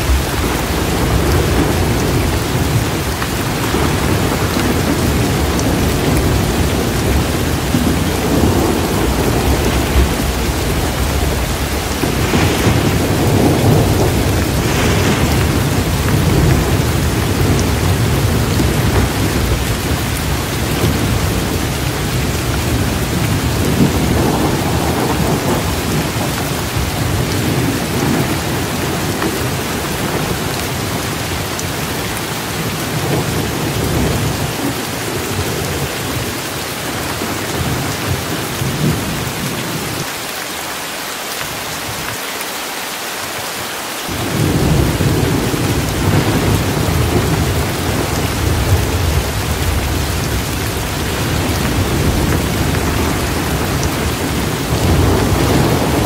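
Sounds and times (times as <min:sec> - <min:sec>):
rolling thunder: 0:00.0 - 0:40.0, 0:44.1 - 0:56.0
heavy rain: 0:00.0 - 0:56.0.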